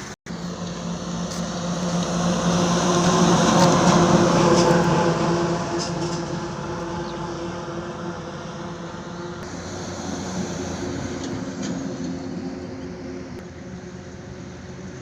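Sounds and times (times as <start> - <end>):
heavy vehicle engine hum: 0.0 - 15.0.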